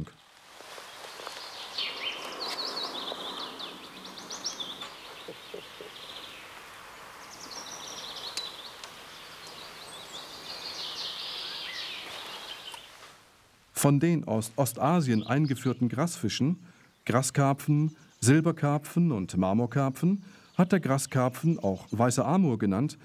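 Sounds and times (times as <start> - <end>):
low background hiss: 0.0 - 23.0
small songbirds singing: 0.7 - 13.0, 14.8 - 18.8, 19.4 - 22.7.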